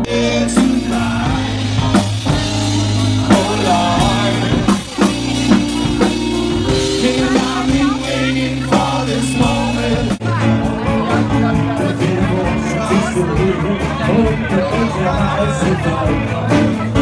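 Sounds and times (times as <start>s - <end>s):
man singing into a microphone: 0.0s - 6.0s, 6.7s - 10.4s, 11.0s - 17.0s
bass line: 0.0s - 17.0s
drum kit: 0.0s - 17.0s.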